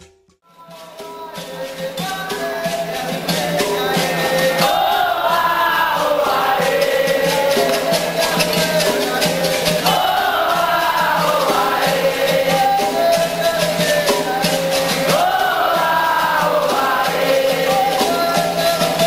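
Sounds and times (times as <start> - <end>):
hand drum rhythm: 0.0 - 19.0
group of voices singing: 0.5 - 19.0
shaken rattles: 0.8 - 19.0
berimbaus playing: 1.0 - 19.0.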